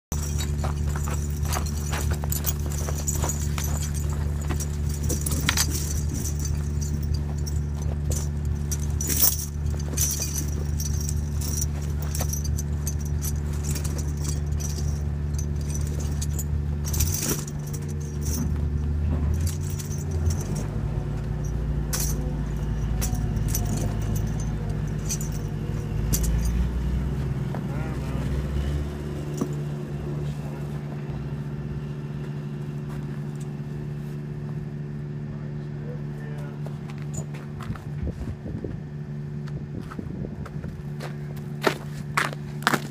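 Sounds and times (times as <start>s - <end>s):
tractor engine running: 0.0s - 42.9s
tire chain links clinking: 0.1s - 35.2s, 35.8s - 38.1s, 40.7s - 42.9s.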